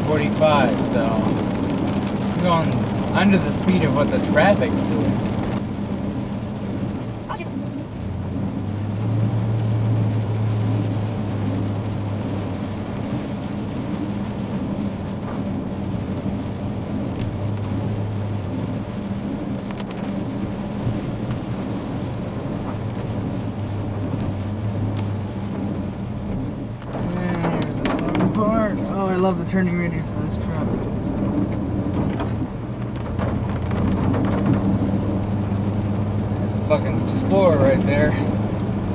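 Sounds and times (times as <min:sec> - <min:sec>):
rain on windshield: 0:00.0 - 0:38.9
truck engine drone: 0:00.0 - 0:38.9
tyre and road noise: 0:00.0 - 0:38.9.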